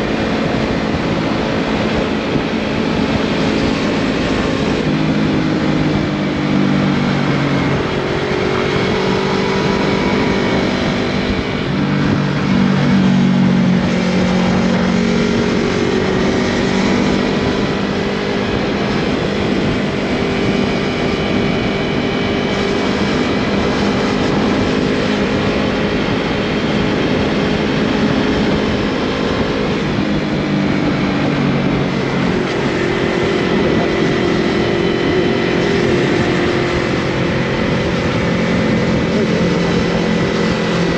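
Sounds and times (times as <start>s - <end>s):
motorcycle engine at road speed: 0.0s - 40.9s
steady rush of noise: 0.0s - 40.9s.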